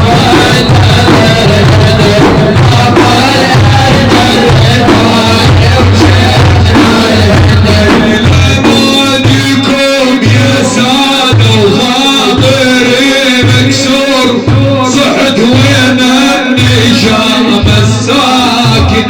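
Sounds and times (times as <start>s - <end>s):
loud steady drum beat: 0.0s - 19.0s.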